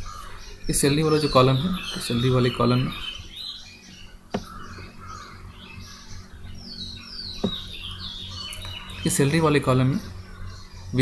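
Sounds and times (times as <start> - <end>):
short falling bird calls: 0.0 - 10.9
birds chirping: 0.0 - 11.0.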